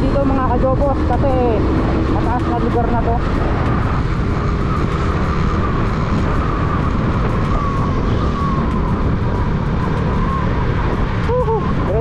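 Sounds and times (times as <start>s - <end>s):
motorcycle engine running: 0.0s - 12.0s
thin whine: 0.0s - 12.0s
wind rushing over microphone: 0.0s - 12.0s.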